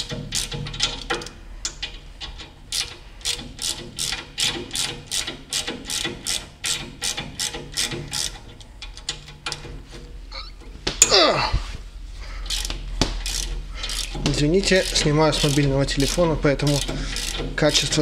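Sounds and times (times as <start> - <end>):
ratchet wrench clicking: 0.0 - 9.7, 12.5 - 18.0.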